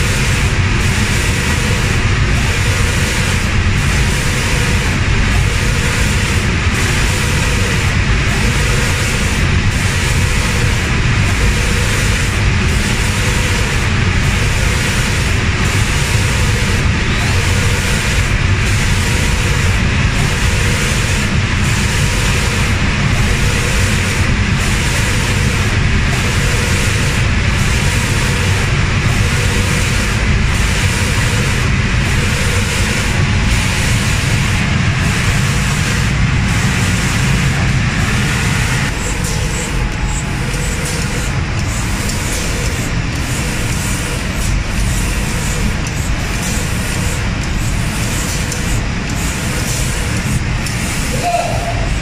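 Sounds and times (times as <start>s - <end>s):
low mechanical rumble: 0.0s - 52.0s
spray painting machine hissing: 0.0s - 52.0s.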